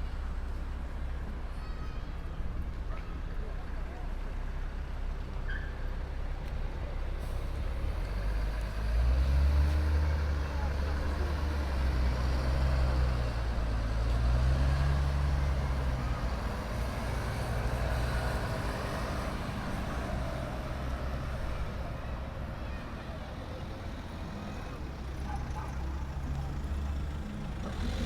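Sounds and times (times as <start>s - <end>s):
crowd noise: 0.0s - 28.0s
heavy vehicle engine rumbling: 0.0s - 28.0s
traffic: 0.0s - 28.0s.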